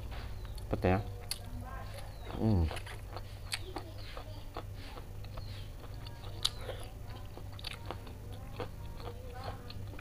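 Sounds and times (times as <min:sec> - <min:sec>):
person chewing food: 0:00.0 - 0:10.0.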